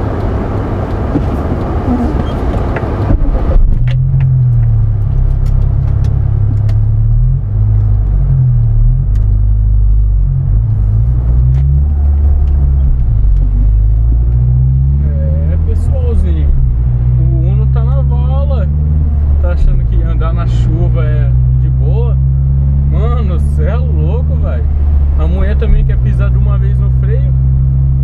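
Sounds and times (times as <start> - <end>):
car engine humming: 0.0 - 28.0.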